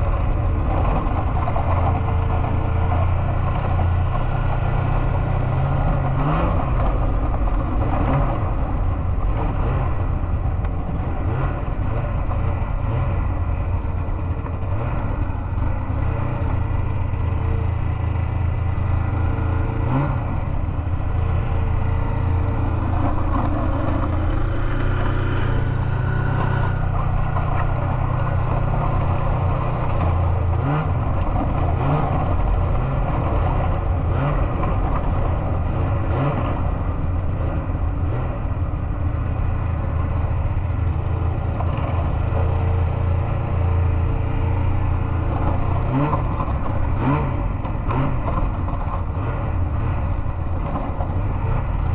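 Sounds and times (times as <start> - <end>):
snowmobile engines revving: 0.0 - 51.9.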